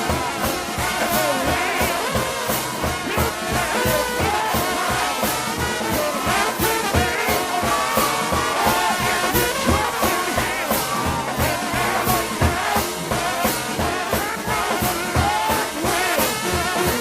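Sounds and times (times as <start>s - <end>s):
brass band with trombones: 0.0s - 17.0s
drum and cymbal beat: 0.0s - 17.0s.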